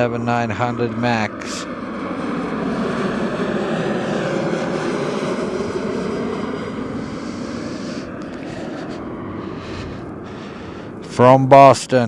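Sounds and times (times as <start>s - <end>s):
jet airliner roaring overhead: 0.0s - 12.0s.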